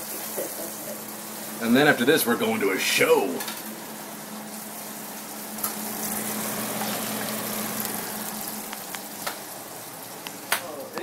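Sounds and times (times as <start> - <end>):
sausage sizzling in a pan: 0.0 - 11.0.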